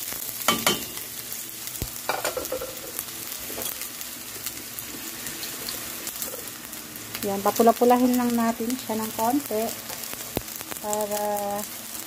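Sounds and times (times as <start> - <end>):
garlic and onion sizzling in oil: 0.0 - 12.0.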